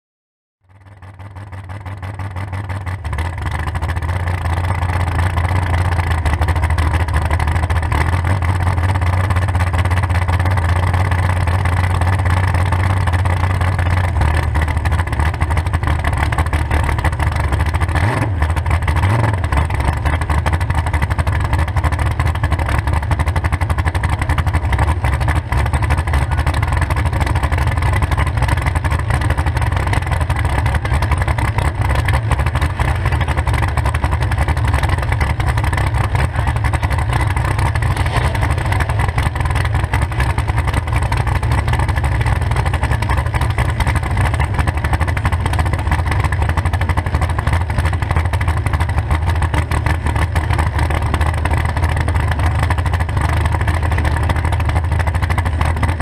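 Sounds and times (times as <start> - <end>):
car engine idling: 0.7 - 56.0.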